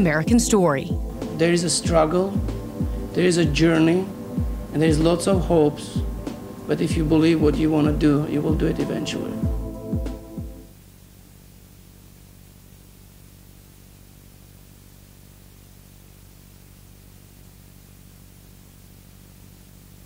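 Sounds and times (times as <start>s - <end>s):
low electrical hum: 0.0s - 20.0s
steady hiss: 1.0s - 20.0s.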